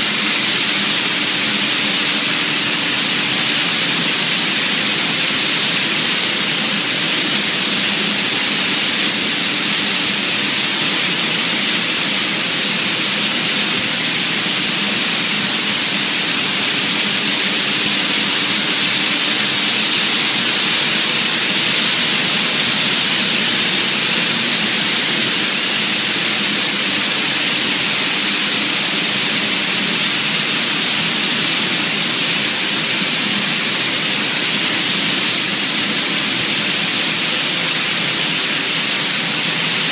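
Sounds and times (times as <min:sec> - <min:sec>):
spray guns hissing: 0:00.0 - 0:39.9.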